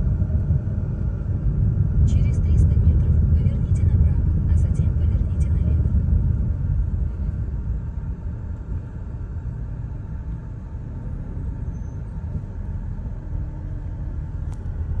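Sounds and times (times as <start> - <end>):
car driving rumble: 0.0 - 15.0
road and tyre noise: 0.0 - 15.0.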